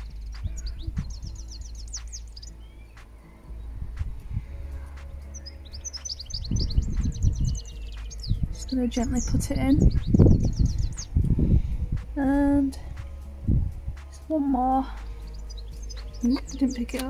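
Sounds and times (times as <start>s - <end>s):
low rumble: 0.0s - 17.0s
songbird singing: 0.0s - 17.0s.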